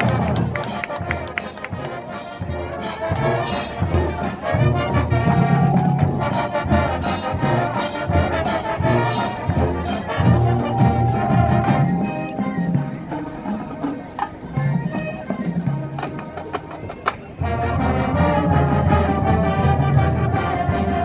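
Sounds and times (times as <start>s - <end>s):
marching band brass: 0.0s - 16.5s, 17.4s - 21.0s.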